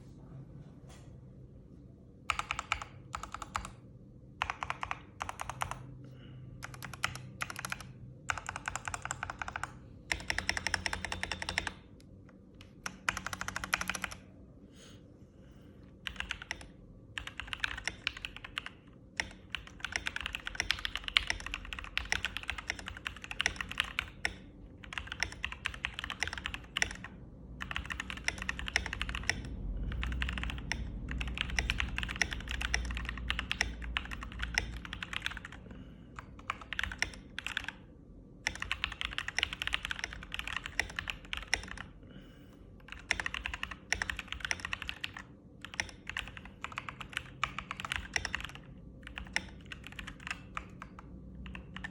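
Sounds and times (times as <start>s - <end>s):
fast typing on mechanical keyboard: 2.3s - 3.8s, 4.4s - 5.9s, 6.6s - 11.9s, 12.6s - 14.2s, 16.0s - 37.8s, 38.4s - 41.9s, 42.8s - 51.9s.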